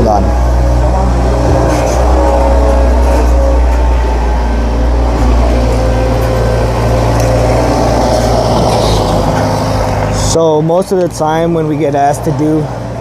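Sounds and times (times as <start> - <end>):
large engine droning: 0.0 - 13.0.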